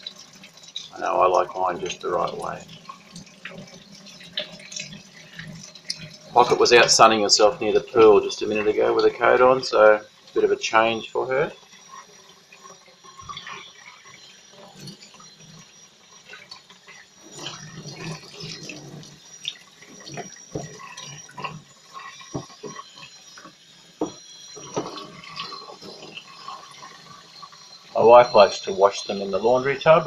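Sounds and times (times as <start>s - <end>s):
water running from hose sprayer: 0.0s - 30.0s.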